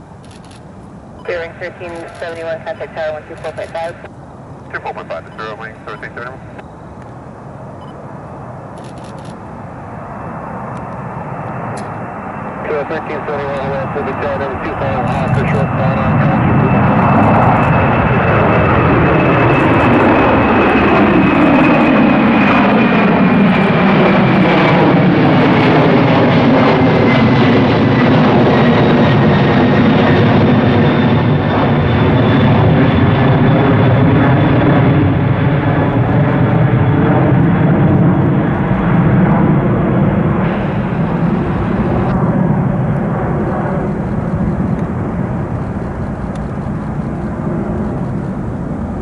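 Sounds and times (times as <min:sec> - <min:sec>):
jet engines roaring past: 0:00.0 - 0:49.0.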